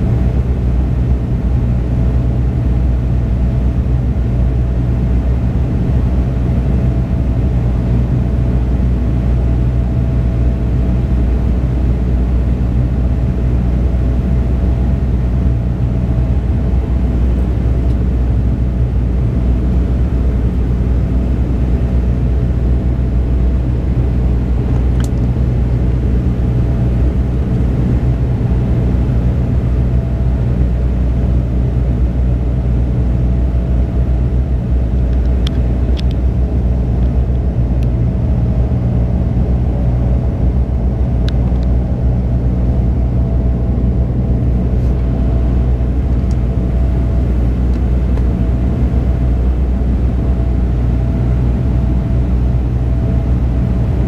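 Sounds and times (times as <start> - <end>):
turboprop engines rumbling: 0.0 - 54.0.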